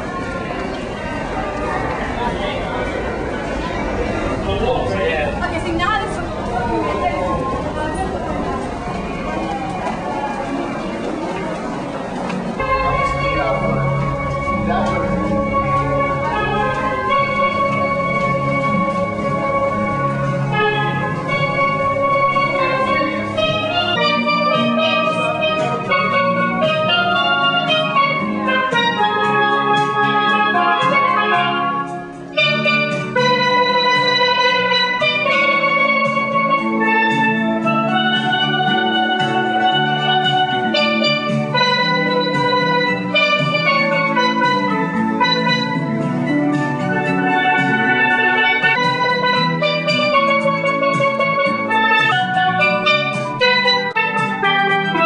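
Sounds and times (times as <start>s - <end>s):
steel pan melody: 0.0s - 55.0s.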